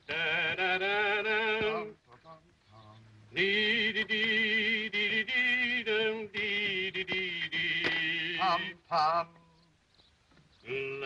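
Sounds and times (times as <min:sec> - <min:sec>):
men humming a tune: 0:00.0 - 0:09.8.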